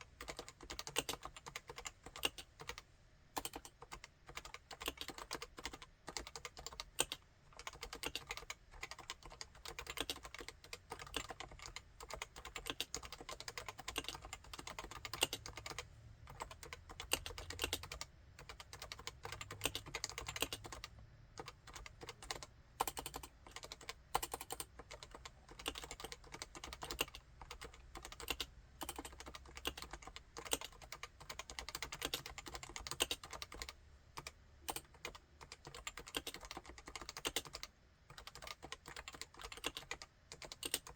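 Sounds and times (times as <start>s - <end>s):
keyboard typing: 0.2s - 2.8s, 3.4s - 40.9s.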